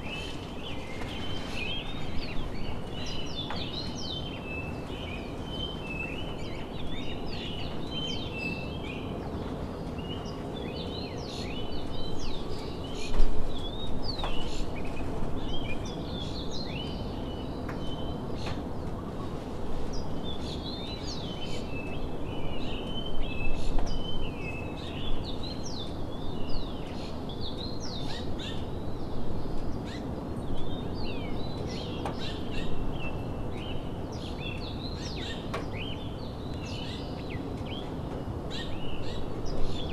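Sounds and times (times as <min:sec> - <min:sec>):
low outdoor background rush: 0:00.0 - 0:39.9.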